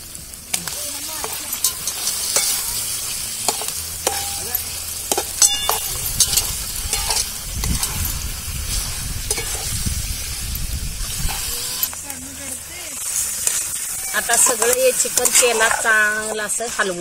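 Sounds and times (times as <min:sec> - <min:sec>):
chicken sizzling in oil: 0:00.0 - 0:17.0
spatula scraping metal pan: 0:00.6 - 0:09.9, 0:11.0 - 0:16.8.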